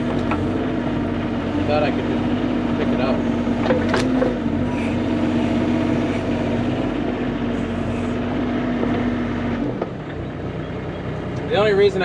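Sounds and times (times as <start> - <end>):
mini excavator engine hum: 0.0 - 12.0.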